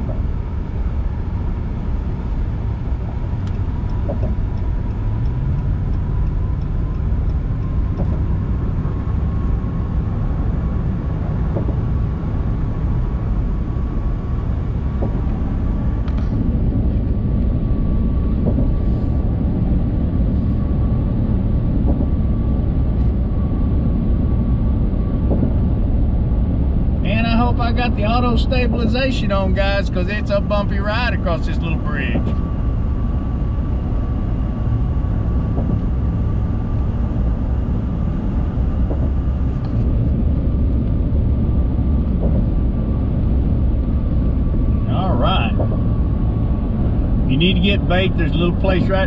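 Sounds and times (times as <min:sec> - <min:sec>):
faint steady whine: 0:00.0 - 0:49.0
tyre and engine rumble: 0:00.0 - 0:49.0.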